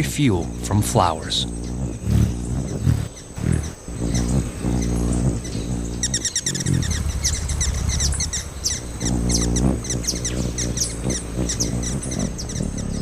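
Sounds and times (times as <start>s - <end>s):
hummingbird squeaky chirps: 0.0s - 13.0s.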